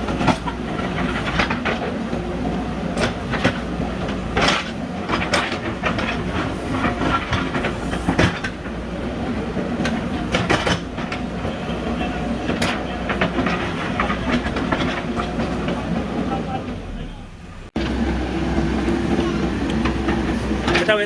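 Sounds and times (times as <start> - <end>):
metallic clanks and knocks: 0.0 - 16.2, 18.6 - 21.0
diesel engine running under load: 0.0 - 21.0.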